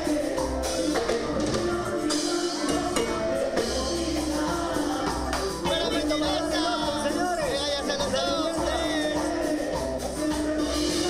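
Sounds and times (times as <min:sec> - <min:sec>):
band playing cumbia music: 0:00.0 - 0:11.0
drums: 0:00.0 - 0:11.0
person singing: 0:00.0 - 0:11.0.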